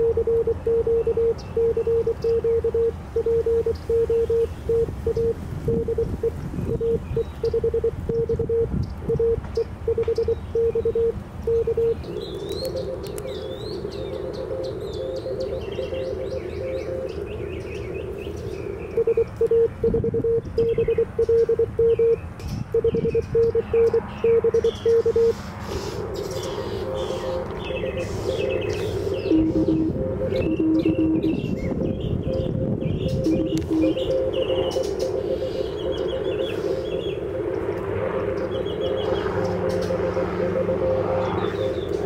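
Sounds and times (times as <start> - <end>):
wind rumble on microphone: 0.0 - 14.8, 15.5 - 25.2, 26.2 - 42.0
faint morse code through hiss: 0.0 - 17.2, 18.9 - 31.5, 32.4 - 42.0
loud morse code tone: 0.0 - 17.3, 18.9 - 25.4, 26.4 - 42.0
birds chirping: 0.0 - 42.0.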